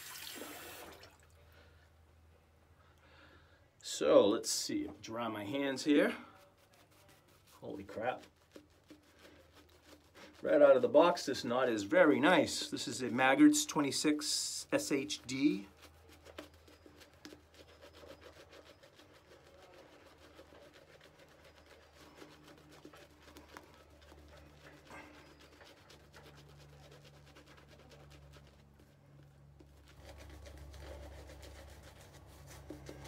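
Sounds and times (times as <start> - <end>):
shaving brush swishing lather: 4.5 - 33.0.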